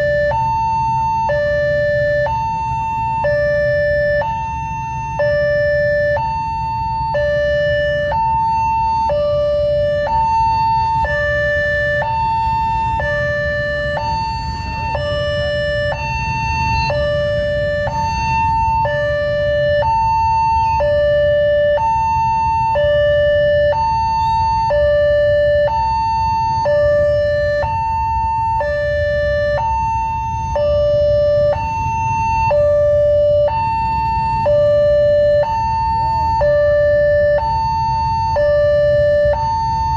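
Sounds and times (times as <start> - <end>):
level crossing two-tone alarm: 0.0 - 39.9
low traffic rumble: 0.0 - 39.9.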